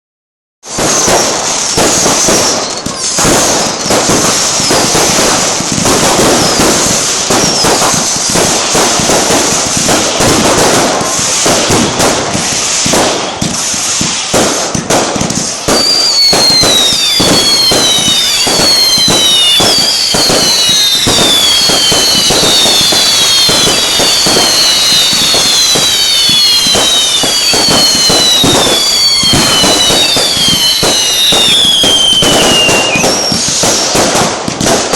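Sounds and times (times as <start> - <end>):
fireworks crackling and popping: 0.6 - 34.9
fireworks whistling: 0.6 - 34.9.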